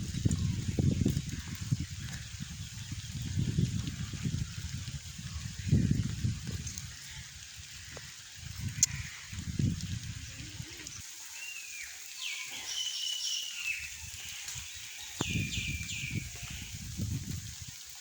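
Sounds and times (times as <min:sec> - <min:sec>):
birds chirping: 0:00.1 - 0:16.8.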